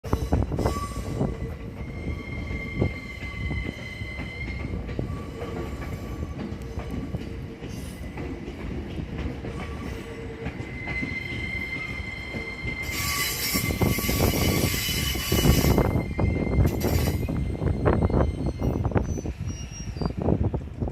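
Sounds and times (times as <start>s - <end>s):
low train rumble: 0.0s - 20.9s
train wheels squealing on rails: 0.0s - 20.9s.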